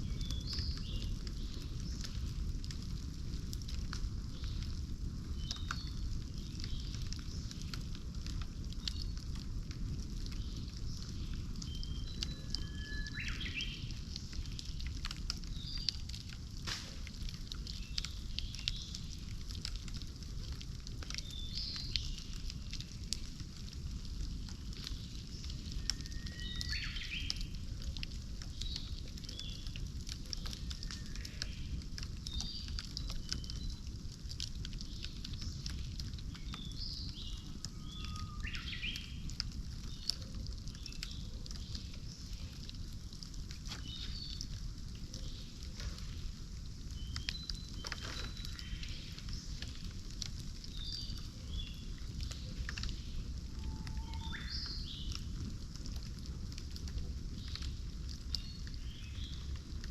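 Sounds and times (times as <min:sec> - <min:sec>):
bonfire crackling and popping: 0:00.0 - 0:59.9.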